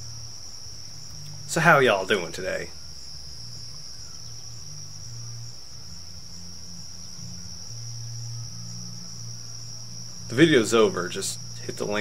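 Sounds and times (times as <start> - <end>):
low wavering hum: 0.0 - 10.6
crickets chirping: 0.0 - 12.0.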